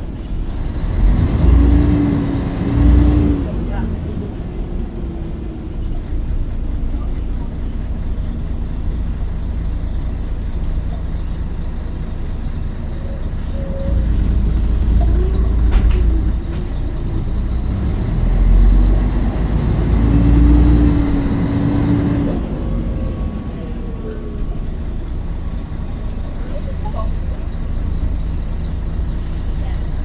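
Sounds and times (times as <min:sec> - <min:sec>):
diesel bus engine running: 0:00.0 - 0:30.0.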